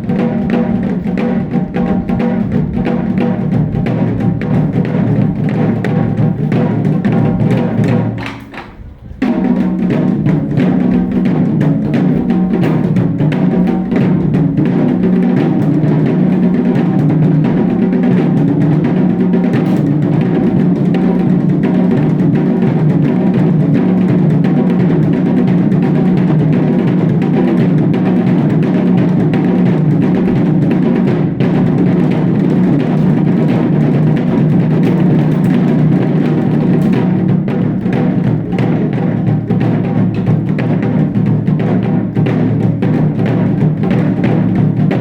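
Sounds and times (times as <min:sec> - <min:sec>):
drums playing dense rhythm: 0:00.0 - 0:45.0.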